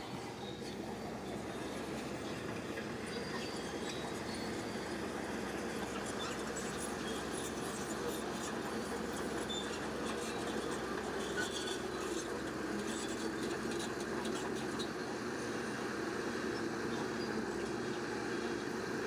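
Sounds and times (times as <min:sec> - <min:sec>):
bulldozer working: 0:00.0 - 0:19.0.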